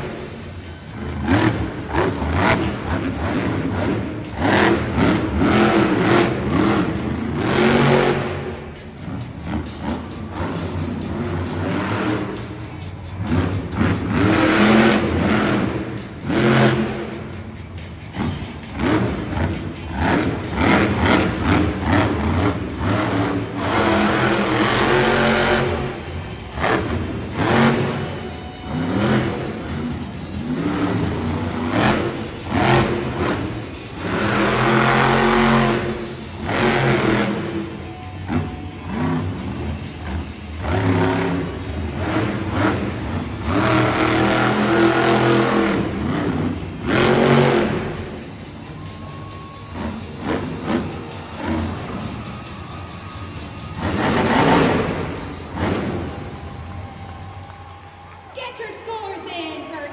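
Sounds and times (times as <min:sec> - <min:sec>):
truck engine revving: 0:00.0 - 0:57.9.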